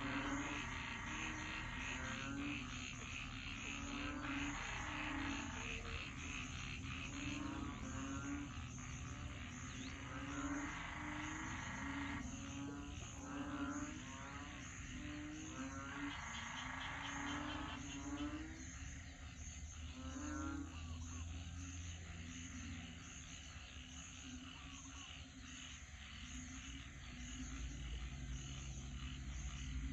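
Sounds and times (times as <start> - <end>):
frogs croaking: 0.0 - 29.9
frogs trilling and chirping: 0.0 - 29.9.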